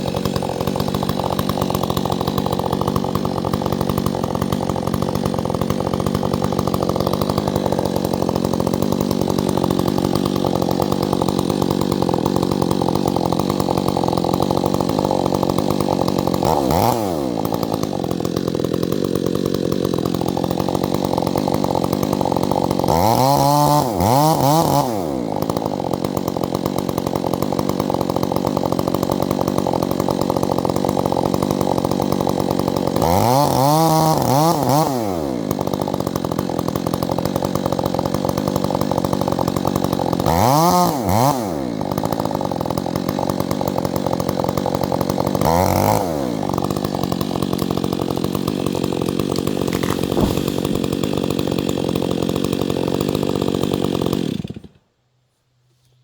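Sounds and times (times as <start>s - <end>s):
petrol chainsaw revving: 0.0s - 54.8s.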